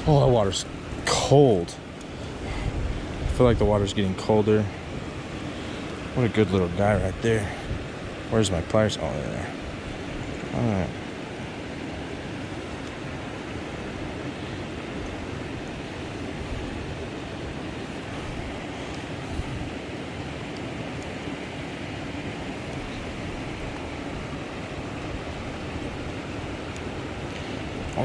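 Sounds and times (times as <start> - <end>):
creek running over rocks: 0.0 - 28.0.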